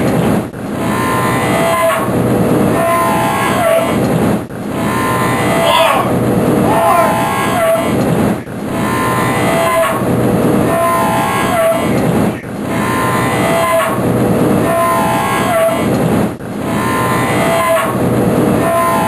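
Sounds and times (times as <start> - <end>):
loud cyclic mechanical din: 0.0 - 19.0.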